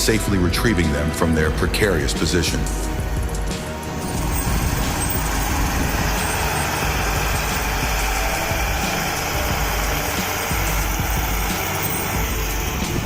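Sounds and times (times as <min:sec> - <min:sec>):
heavy vehicle engine running: 0:02.1 - 0:13.0.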